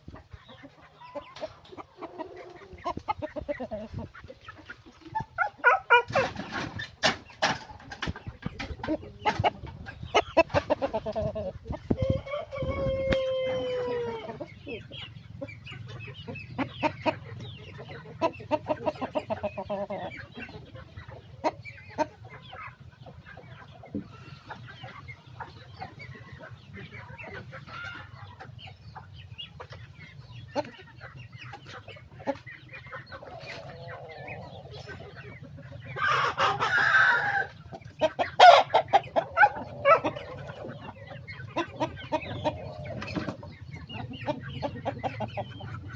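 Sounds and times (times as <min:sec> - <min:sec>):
roosters clucking: 0:00.0 - 0:45.9.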